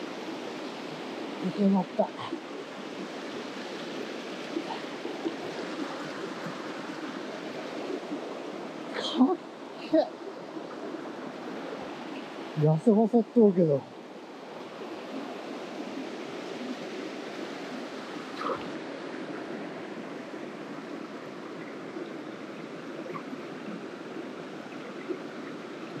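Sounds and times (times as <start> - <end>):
stream water running: 0.0 - 26.0.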